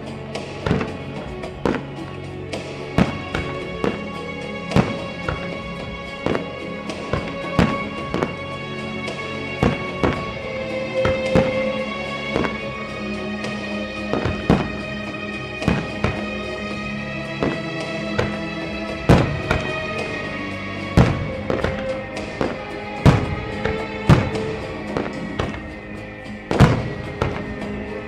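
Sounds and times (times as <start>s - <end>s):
fireworks booming: 0.0s - 28.0s
music with sustained tones: 0.0s - 28.0s.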